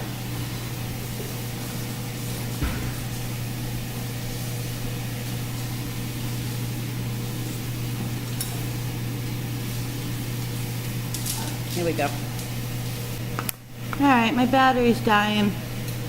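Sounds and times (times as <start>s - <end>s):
steak sizzling on a griddle: 0.0s - 15.0s.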